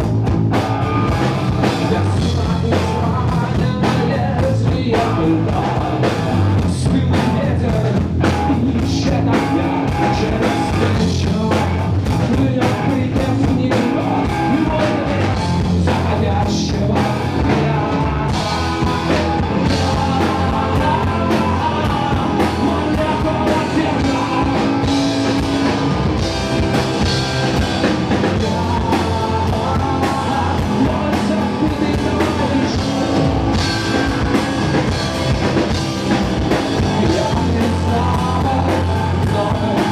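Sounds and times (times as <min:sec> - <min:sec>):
drum kit beat: 0:00.0 - 0:39.9
electric guitars: 0:00.0 - 0:39.9
person singing: 0:00.6 - 0:39.9.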